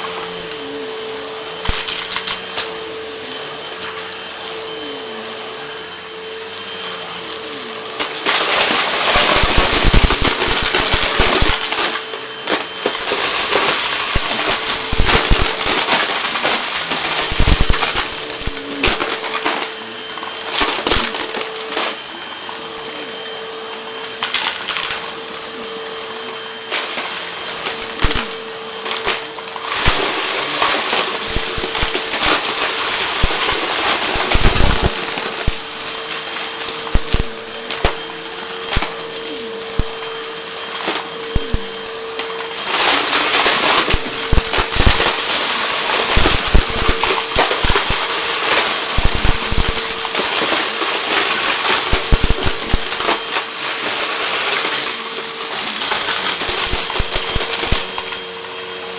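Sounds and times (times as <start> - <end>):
debris crackling in vacuum: 0.0 - 58.6
vacuum cleaner motor whine: 0.0 - 58.9.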